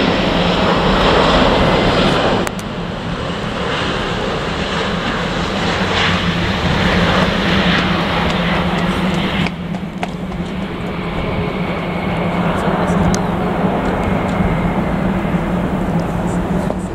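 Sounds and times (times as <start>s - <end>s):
jet airliner landing: 0.0s - 16.9s.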